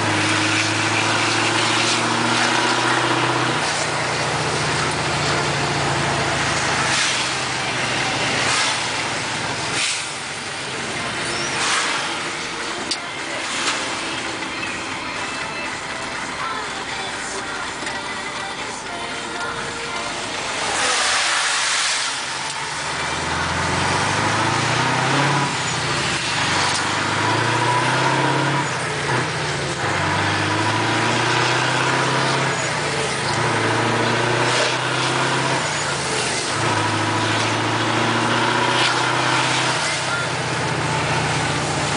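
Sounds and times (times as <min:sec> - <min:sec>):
truck engine with gear changes: 0:00.0 - 0:41.9.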